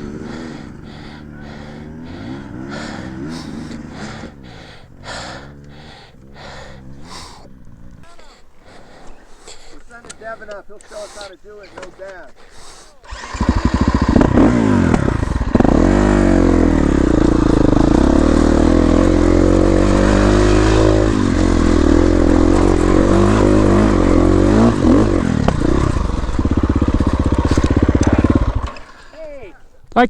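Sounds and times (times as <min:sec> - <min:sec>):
dirt bike engine revving: 0:00.0 - 0:29.8.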